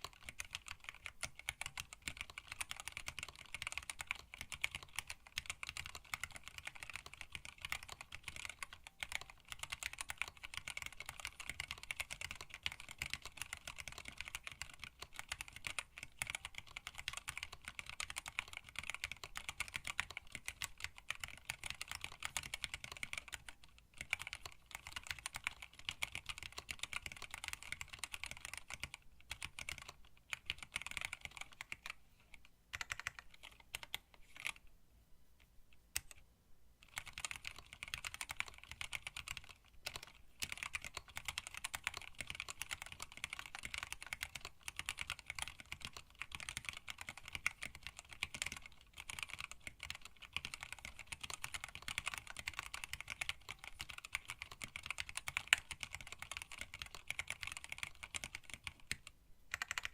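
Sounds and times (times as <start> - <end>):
mechanical keyboard typing: 0.0 - 32.0, 32.7 - 34.6, 35.9 - 36.2, 36.8 - 59.9.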